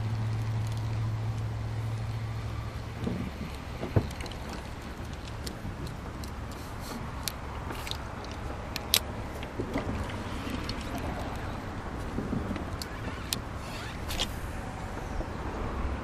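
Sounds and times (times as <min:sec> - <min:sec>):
electric boat motor humming: 0:00.0 - 0:16.0.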